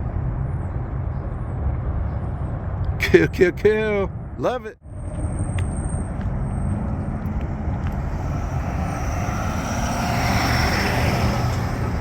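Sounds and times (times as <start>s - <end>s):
cars going by: 0.0s - 12.0s
traffic rumble: 0.0s - 12.0s.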